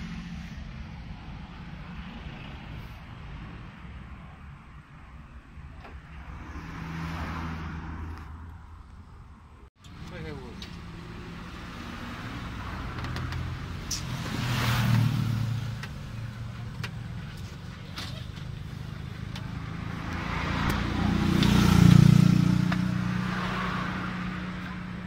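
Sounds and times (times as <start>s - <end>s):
engine hum: 0.0s - 25.0s
vehicles passing: 0.0s - 25.0s.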